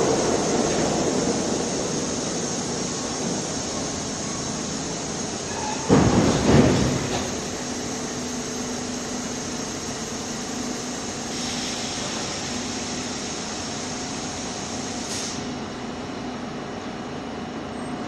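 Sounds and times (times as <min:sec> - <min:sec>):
subway train humming and hissing: 0:00.0 - 0:18.0.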